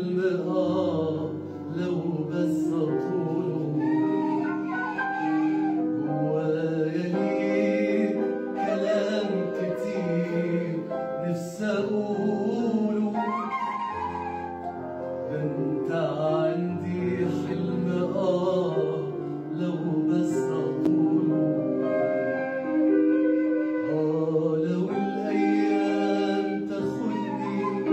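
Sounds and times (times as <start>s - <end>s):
man singing into microphone: 0.0s - 4.8s, 6.0s - 14.1s, 15.2s - 27.9s
musical accompaniment: 0.0s - 27.9s.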